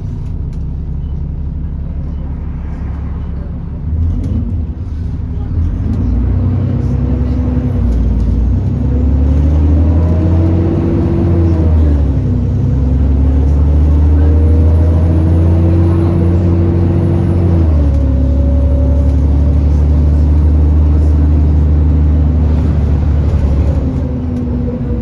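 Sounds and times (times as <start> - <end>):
bus engine accelerating: 0.0 - 25.0.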